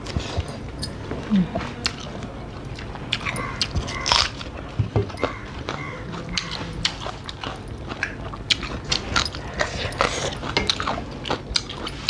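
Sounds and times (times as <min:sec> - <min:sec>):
wet chewing and lip-smacking: 0:01.7 - 0:12.0.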